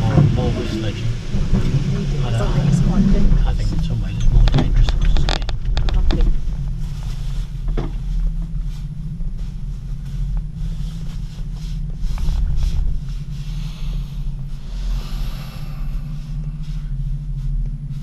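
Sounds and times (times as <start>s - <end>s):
cable car gondola rumble: 0.0s - 18.0s.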